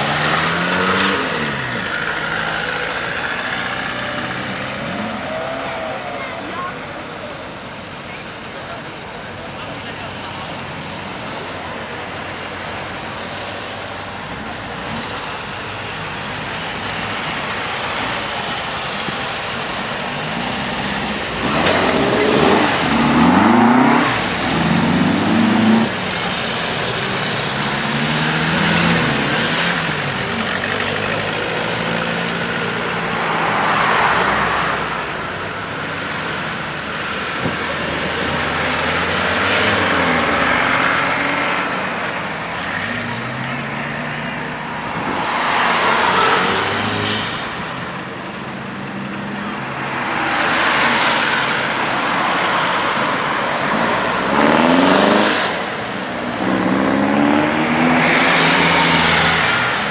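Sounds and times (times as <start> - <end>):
cars driving past: 0.0 - 59.9.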